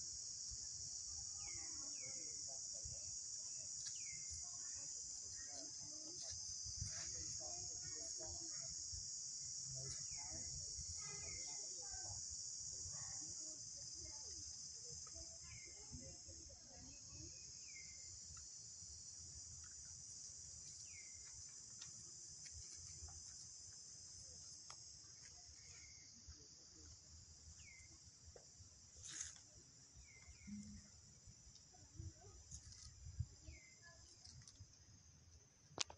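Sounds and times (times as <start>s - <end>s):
shrill insect chorus: 0.0s - 35.9s.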